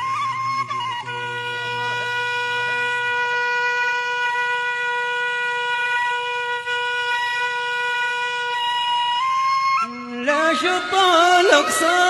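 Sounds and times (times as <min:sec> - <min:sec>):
wooden pipe long held note: 0:00.0 - 0:12.0.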